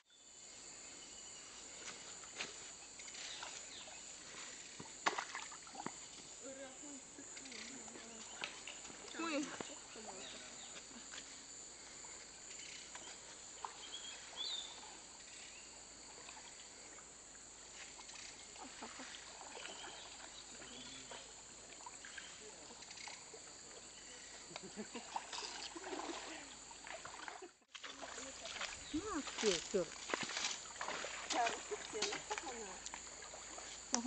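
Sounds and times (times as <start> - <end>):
insects droning: 0.0 - 34.0
person wading through water: 1.4 - 34.0.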